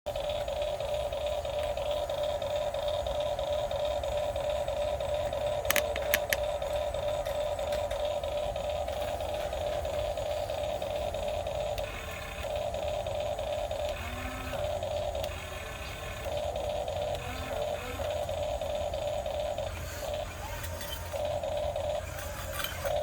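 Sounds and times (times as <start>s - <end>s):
electric motors whining: 0.1s - 23.0s.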